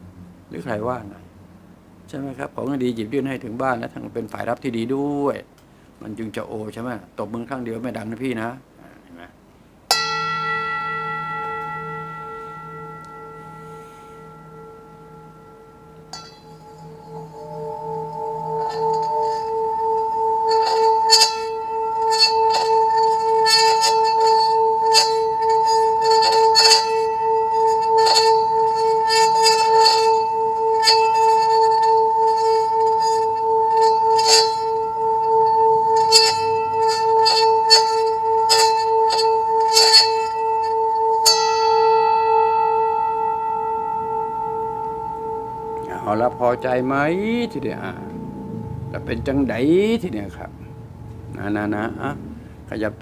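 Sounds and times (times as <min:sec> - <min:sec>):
singing bowl humming: 0:09.7 - 0:53.0
singing bowl struck and ringing: 0:09.9 - 0:52.7.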